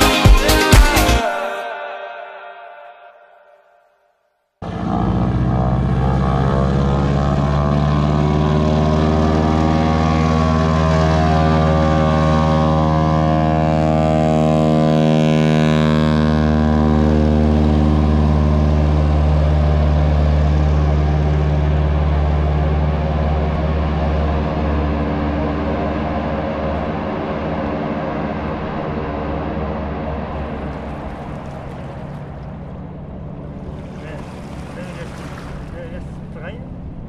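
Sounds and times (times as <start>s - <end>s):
propeller engine drone: 4.6s - 37.0s.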